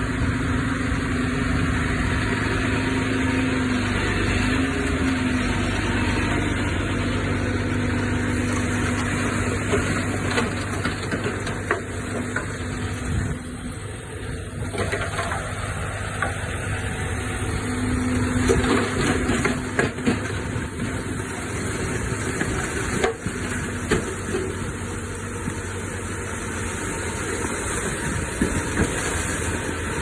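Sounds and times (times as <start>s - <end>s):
diesel engine of heavy machinery: 0.0s - 30.0s.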